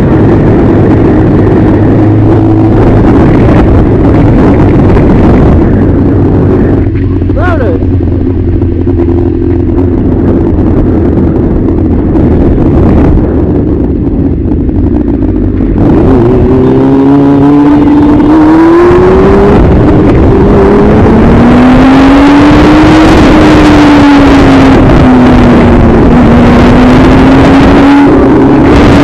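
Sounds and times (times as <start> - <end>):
motorcycle engine revving: 0.0 - 29.0
wind noise: 0.0 - 29.0.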